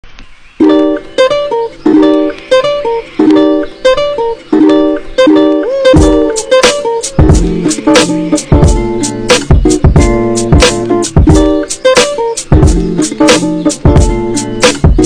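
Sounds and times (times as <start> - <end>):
plucked string riff: 0.6 - 15.0
low beat: 1.2 - 15.0.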